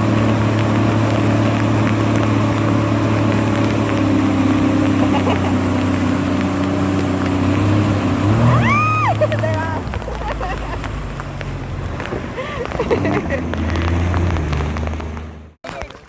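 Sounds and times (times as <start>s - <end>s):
watercraft engine droning: 0.0s - 15.6s.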